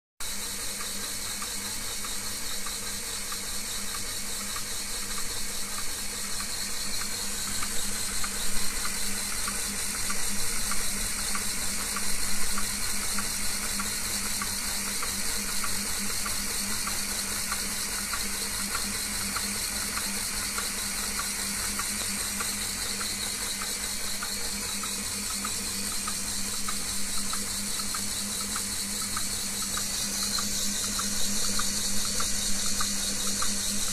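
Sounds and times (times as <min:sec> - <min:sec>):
lathe motor hum: 0:00.2 - 0:33.9
model engine whirring and ticking: 0:00.2 - 0:33.9.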